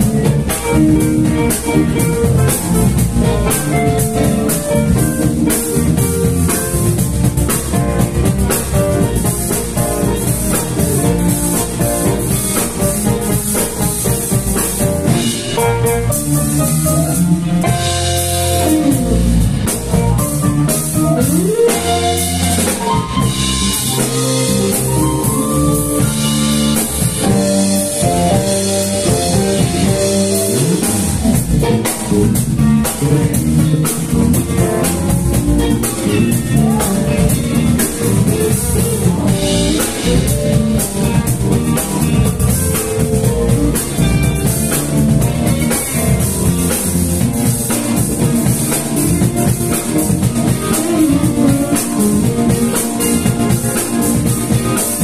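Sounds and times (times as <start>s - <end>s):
bass guitar: 0.0s - 55.0s
drum kit: 0.0s - 55.0s
electric guitars: 0.0s - 55.0s
electronic keyboard: 0.0s - 55.0s.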